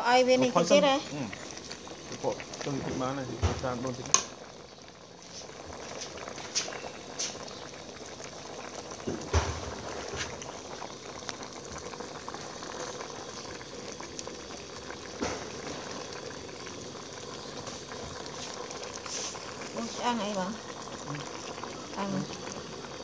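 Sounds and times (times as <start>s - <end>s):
pot of soup boiling: 0.0s - 23.0s.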